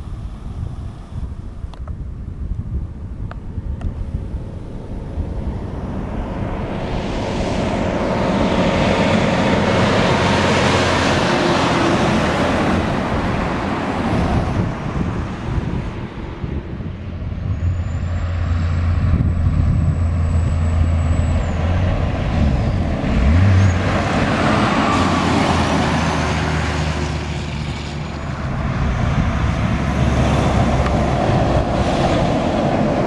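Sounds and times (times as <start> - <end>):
tyre and wind noise: 0.0 - 33.0
diesel truck engines droning: 2.6 - 33.0.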